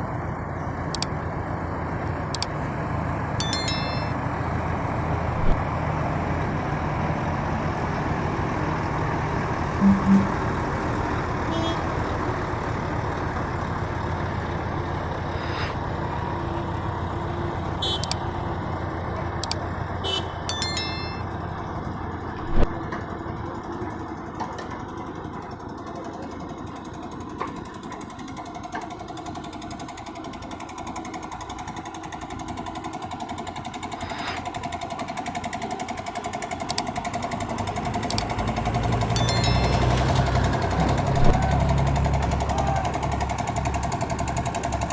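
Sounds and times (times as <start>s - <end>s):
road noise: 0.0s - 44.9s
truck engine running: 0.0s - 44.9s.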